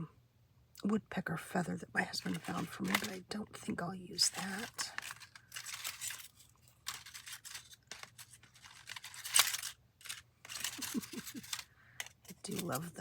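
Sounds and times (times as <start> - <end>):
dry seed pods rustling: 2.0 - 13.0.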